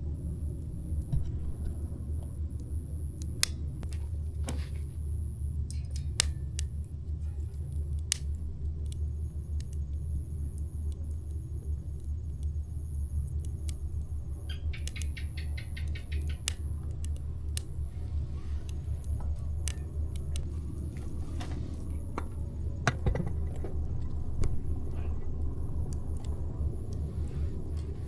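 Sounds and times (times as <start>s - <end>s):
low rumble: 0.0s - 15.0s, 16.4s - 28.0s
campfire crackling and popping: 0.1s - 28.0s.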